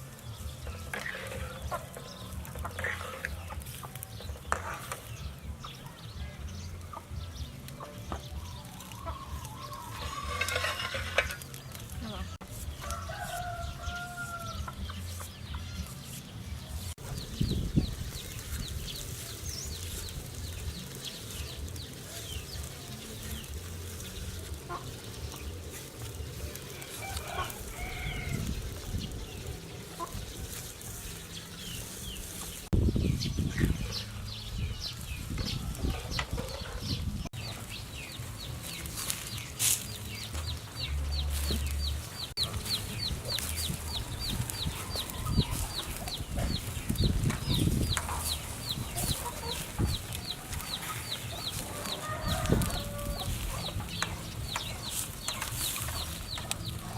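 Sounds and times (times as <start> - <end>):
chickens clucking: 0.3 - 56.9.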